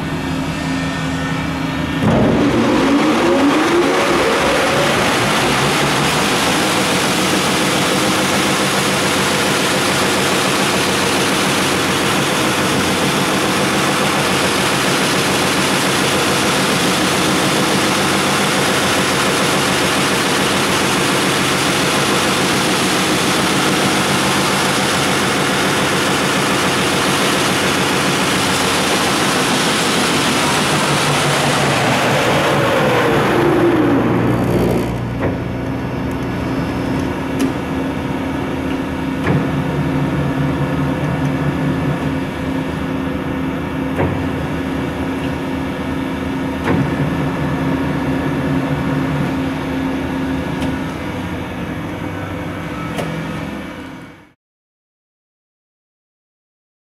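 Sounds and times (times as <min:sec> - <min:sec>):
falling whine: 0:00.0 - 0:53.9
grinding machine hum and hiss: 0:00.0 - 0:54.3.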